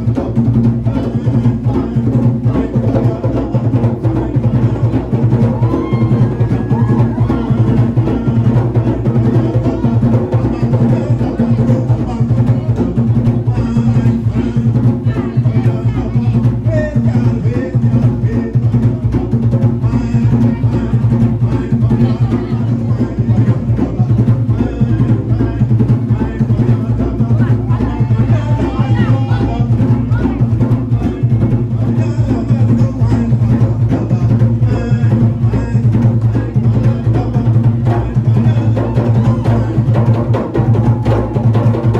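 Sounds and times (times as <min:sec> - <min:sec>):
drums and percussion beat: 0:00.0 - 0:41.9
strong bass: 0:00.0 - 0:41.9.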